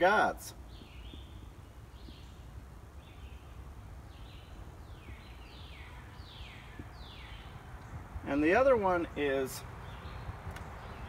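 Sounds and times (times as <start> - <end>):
low steady background rumble: 0.0 - 11.0.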